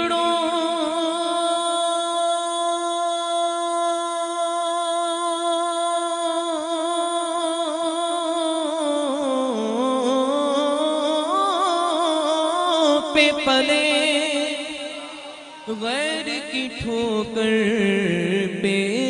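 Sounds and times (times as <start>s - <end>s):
man singing long devotional note: 0.0s - 19.0s.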